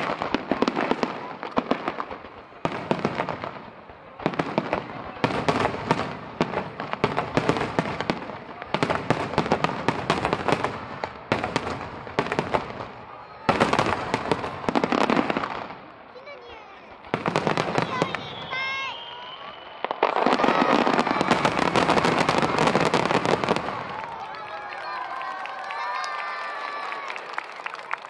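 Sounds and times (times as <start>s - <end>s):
fireworks bursting: 0.0s - 25.3s.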